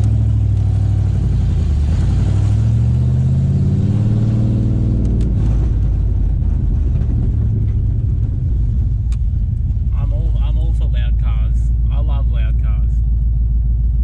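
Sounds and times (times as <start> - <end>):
car engine revving: 0.0 - 14.0
car engine rough rumble: 0.0 - 14.0.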